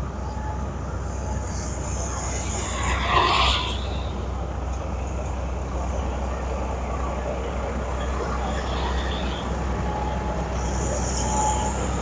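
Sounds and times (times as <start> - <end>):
heavy engines rumbling: 0.0 - 12.0
road noise: 0.0 - 12.0.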